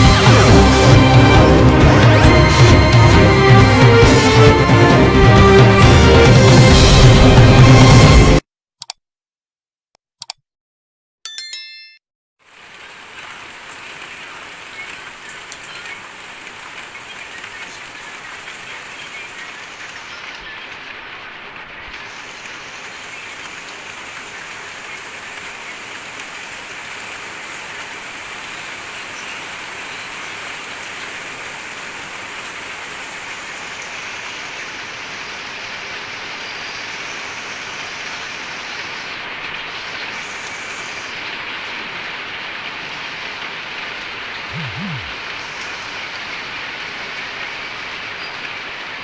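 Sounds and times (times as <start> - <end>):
steady rain falling: 0.0 - 8.4, 12.4 - 49.0.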